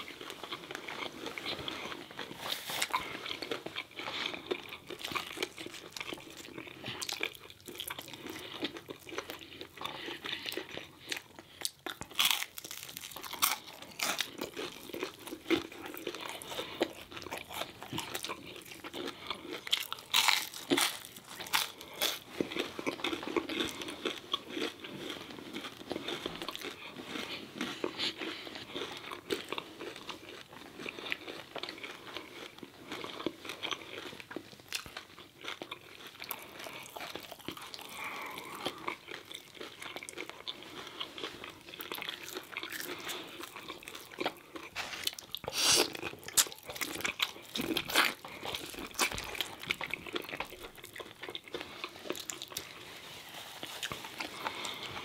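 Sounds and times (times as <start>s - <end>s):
crunching fried food: 0.0s - 55.0s
wet chewing: 0.0s - 55.0s.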